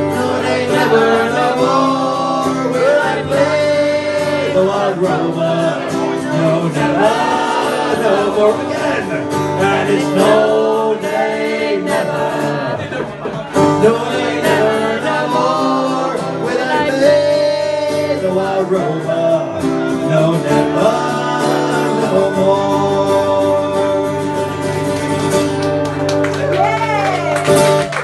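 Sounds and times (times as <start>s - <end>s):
voices singing a chorus: 0.0s - 13.0s, 13.6s - 24.5s
acoustic guitar strumming: 0.0s - 28.0s.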